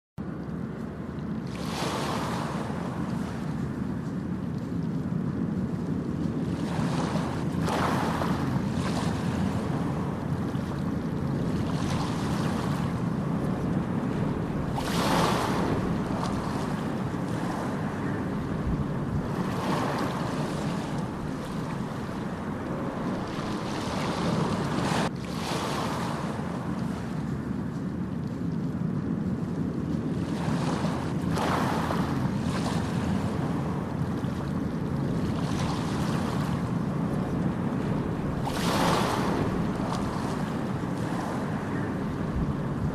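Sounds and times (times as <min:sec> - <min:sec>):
ocean waves breaking: 0:00.2 - 0:42.9.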